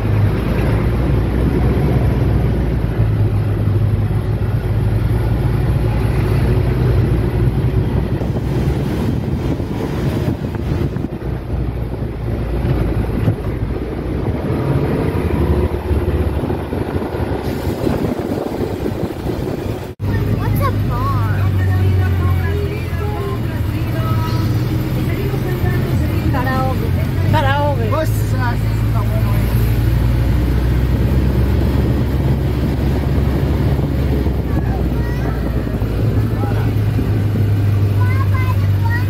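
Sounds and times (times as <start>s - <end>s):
wind noise on microphone: 0.0s - 27.6s, 28.3s - 39.0s
utility vehicle engine running: 0.0s - 39.0s.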